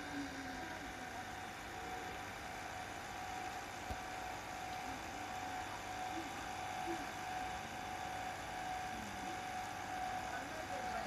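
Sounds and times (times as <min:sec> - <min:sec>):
constant thin tone: 0:00.0 - 0:11.0
tape hiss: 0:00.0 - 0:11.0.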